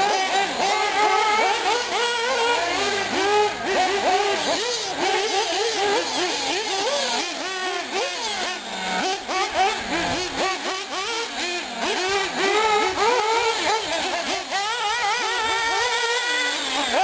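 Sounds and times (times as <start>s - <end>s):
rc car engines revving: 0.0s - 17.0s.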